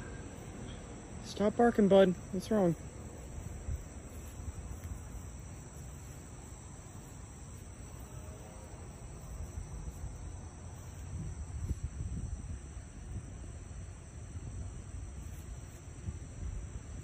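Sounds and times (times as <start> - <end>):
crickets and insects trilling: 0.0 - 17.0.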